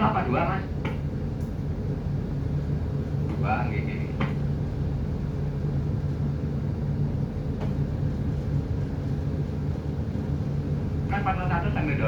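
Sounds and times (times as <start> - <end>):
ship engine drone: 0.0 - 12.0.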